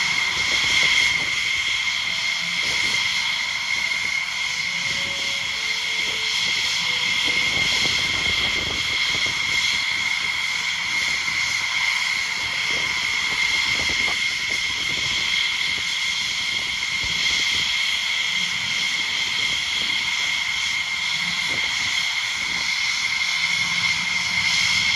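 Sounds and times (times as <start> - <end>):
high-pitched engine whine: 0.0 - 24.9
jet engine roar: 0.0 - 24.9.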